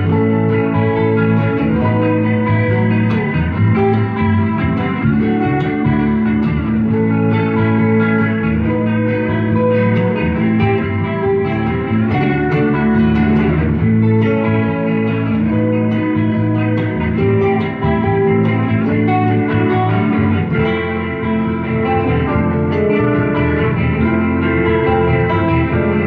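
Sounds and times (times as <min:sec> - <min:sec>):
guitars playing: 0:00.0 - 0:26.0
low bass line: 0:00.0 - 0:26.0.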